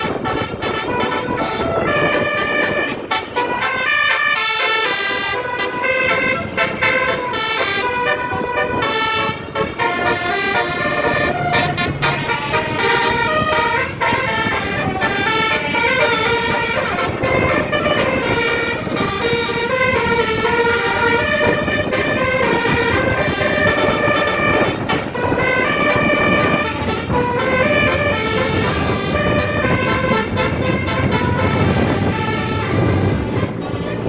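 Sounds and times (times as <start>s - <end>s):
bus horn playing a melody: 0.0s - 34.0s
engine and street noise: 0.0s - 34.0s.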